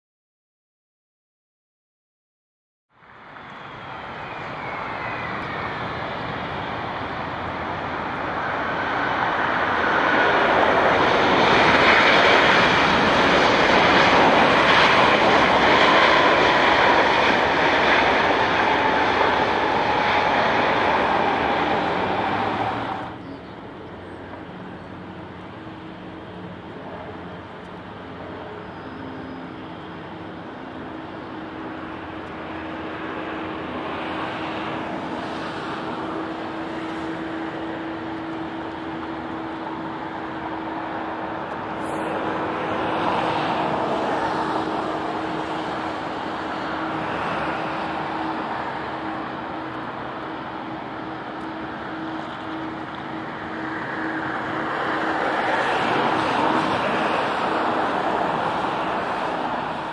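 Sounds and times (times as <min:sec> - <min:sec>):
jet engines roaring and whining: 0:03.0 - 0:59.9.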